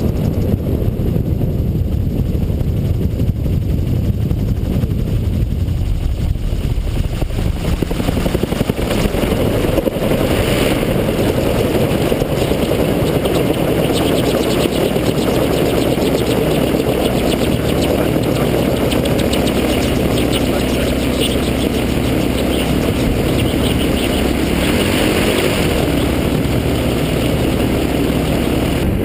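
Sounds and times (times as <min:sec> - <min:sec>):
gyrocopter engine and rotor: 0:00.0 - 0:29.0.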